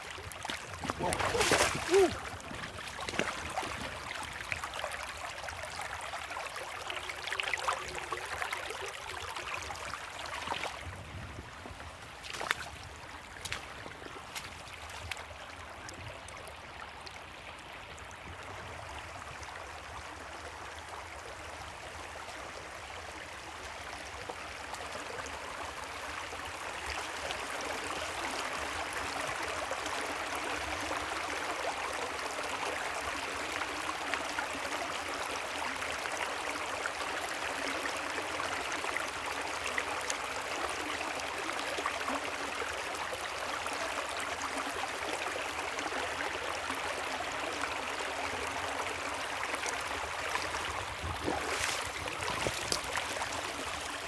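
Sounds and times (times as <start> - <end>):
creek water running over rocks: 0.0 - 54.0.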